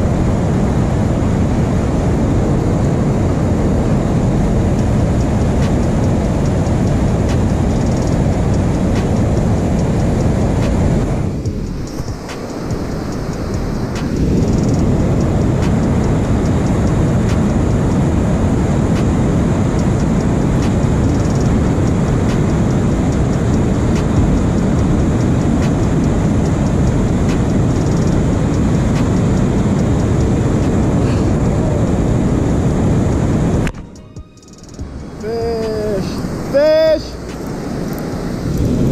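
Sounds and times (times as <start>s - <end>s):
water rushing over dam spillway: 0.0s - 33.8s, 35.0s - 38.9s.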